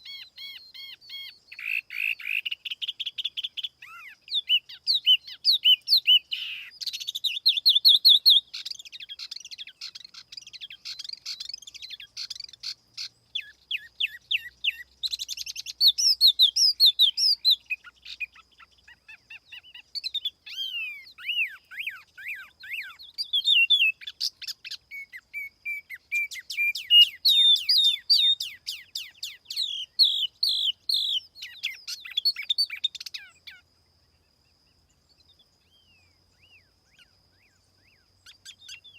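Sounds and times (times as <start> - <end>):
songbird whistling and chirping: 0.0 - 38.9.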